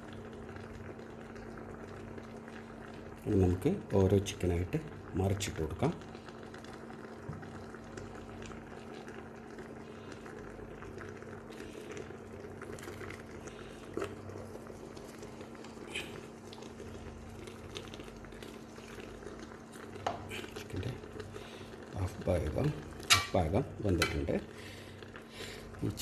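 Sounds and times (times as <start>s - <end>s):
pot simmering: 0.0s - 26.0s.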